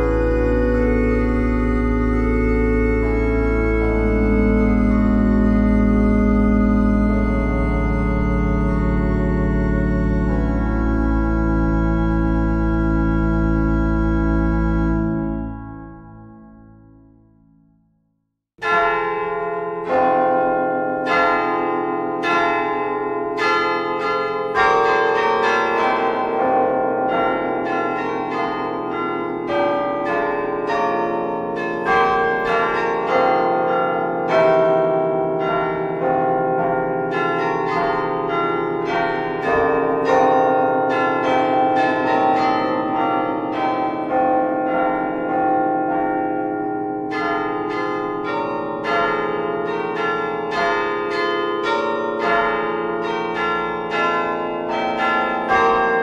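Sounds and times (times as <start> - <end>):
church bells ringing a peal: 0.0 - 17.5, 18.6 - 56.0.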